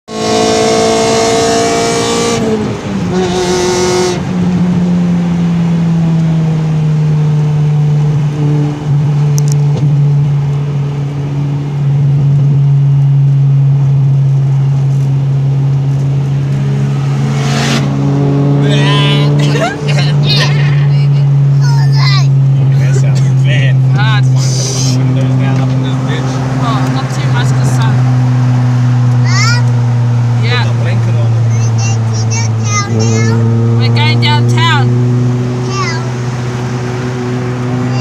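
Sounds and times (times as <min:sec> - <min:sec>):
car engine at high revs: 0:00.1 - 0:38.0.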